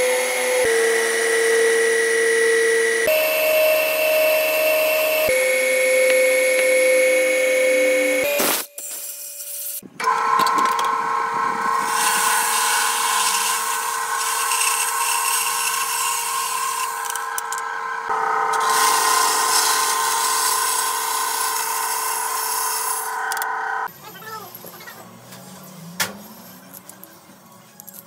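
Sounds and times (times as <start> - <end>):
band saw cutting metal: 0.0 - 23.9.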